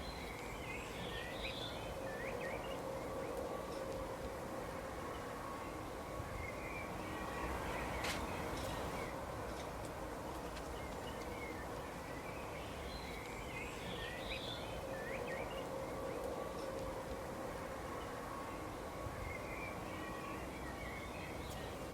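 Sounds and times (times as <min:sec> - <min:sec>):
birds chirping: 0:00.0 - 0:09.2, 0:10.3 - 0:21.9.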